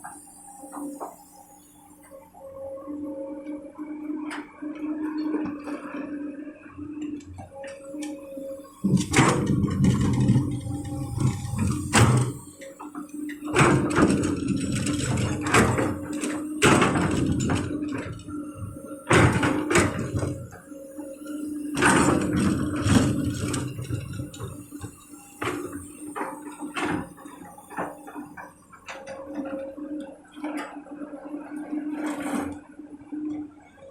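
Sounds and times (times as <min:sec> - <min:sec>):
excavator engine hum: 0:00.0 - 0:33.9.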